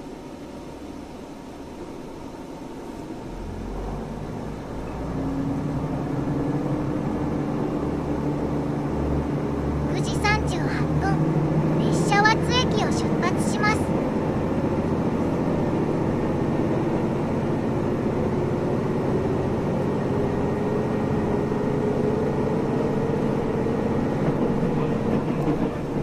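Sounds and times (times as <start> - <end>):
diesel railcar engine droning: 0.0 - 26.0.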